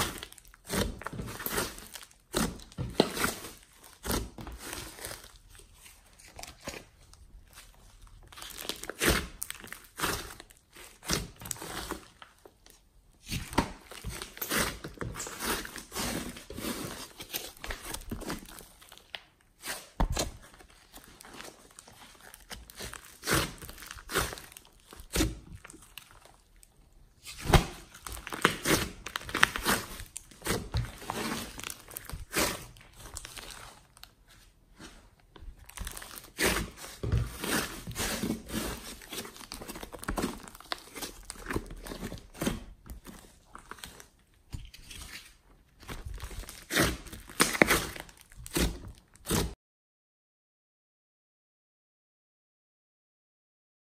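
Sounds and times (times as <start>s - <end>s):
slime crackling and squishing: 0.0s - 49.6s.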